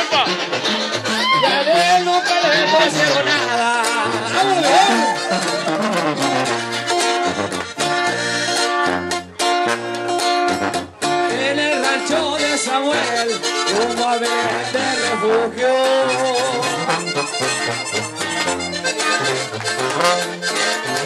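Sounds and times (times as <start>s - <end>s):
accordion melody: 0.0s - 21.0s
guitar accompaniment: 0.0s - 21.0s
tuba bass line: 0.0s - 21.0s.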